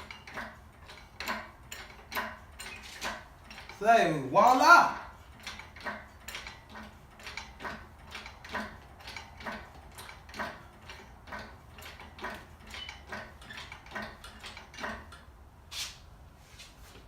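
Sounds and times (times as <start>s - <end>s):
hydraulic hoist pump clacking: 0.0s - 15.4s.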